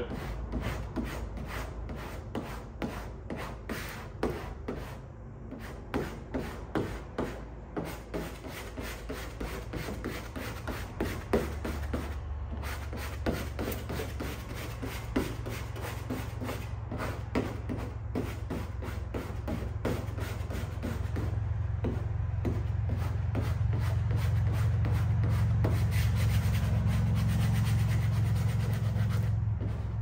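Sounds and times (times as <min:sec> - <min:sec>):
low steady hum: 0:00.0 - 0:30.0
squeegee rubbing vinyl: 0:00.0 - 0:30.0.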